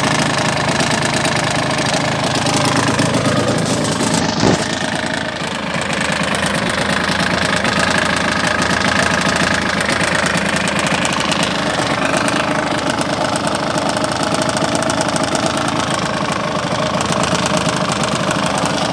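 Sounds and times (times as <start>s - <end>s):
two-stroke engine knocking and rattling: 0.0s - 18.9s.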